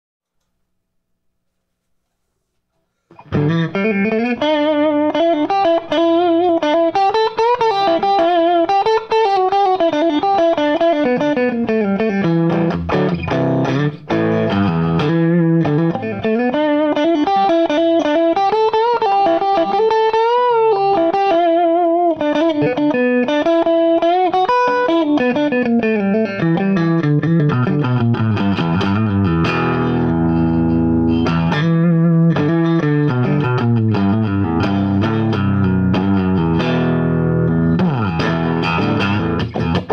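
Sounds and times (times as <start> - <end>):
distorted electric guitar blues licks: 3.1 - 39.9.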